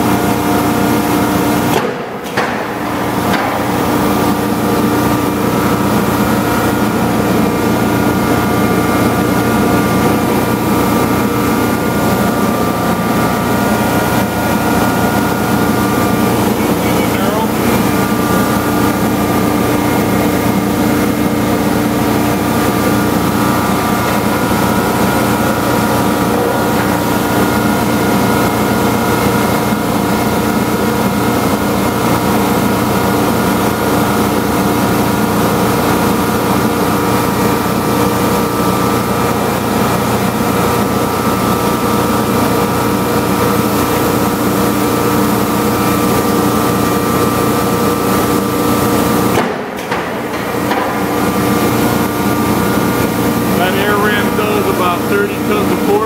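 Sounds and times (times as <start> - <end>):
rollformer machine droning: 0.0 - 56.0.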